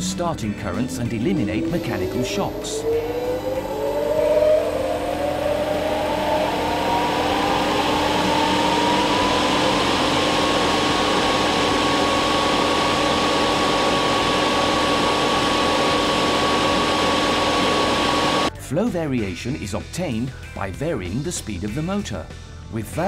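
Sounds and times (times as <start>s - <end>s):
fan motor whine rising: 0.0s - 18.5s
low motor hum: 0.0s - 18.5s.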